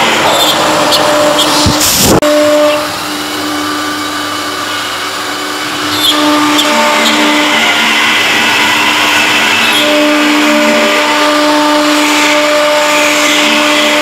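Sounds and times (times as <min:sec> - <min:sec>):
cnc router whining: 0:00.0 - 0:14.0.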